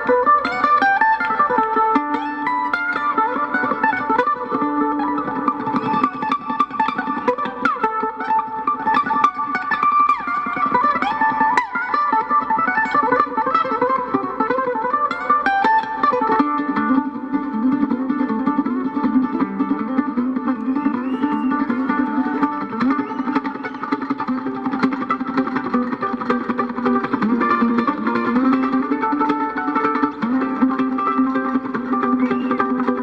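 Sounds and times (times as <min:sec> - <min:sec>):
fast mandolin lead: 0:00.0 - 0:33.0
string band backing: 0:00.0 - 0:33.0.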